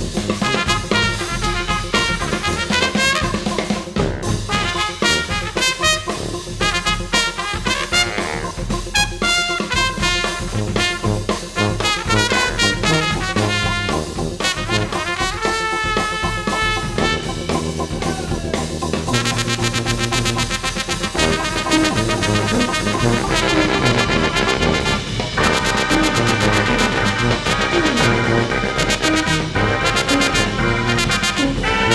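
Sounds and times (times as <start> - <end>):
drum kit: 0.0 - 31.9
jazz brass ensemble playing: 0.0 - 31.9.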